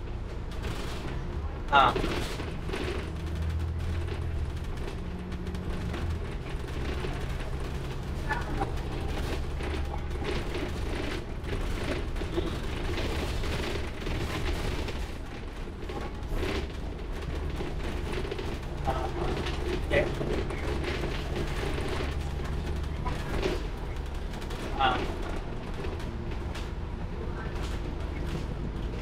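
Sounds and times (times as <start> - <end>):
bus engine and road rumble: 0.0 - 29.0
bus fittings rattling: 0.0 - 29.0.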